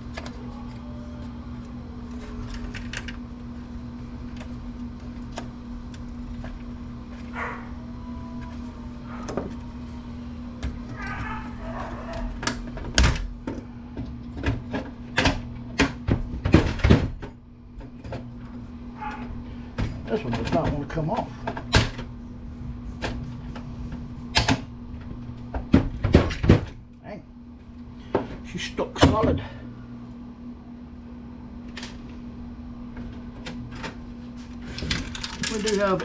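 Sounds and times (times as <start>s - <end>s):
low hum: 0.0s - 35.7s.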